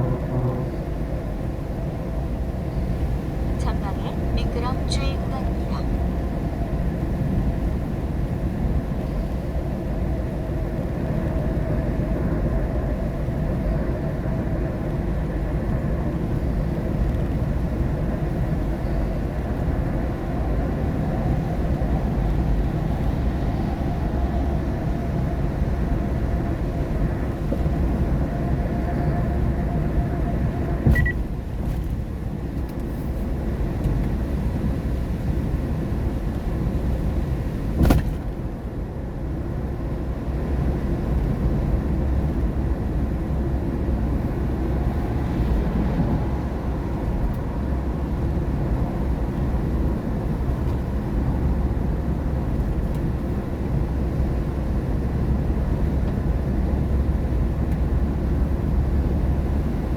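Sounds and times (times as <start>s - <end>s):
engine and tyres on wet road: 0.0s - 59.9s.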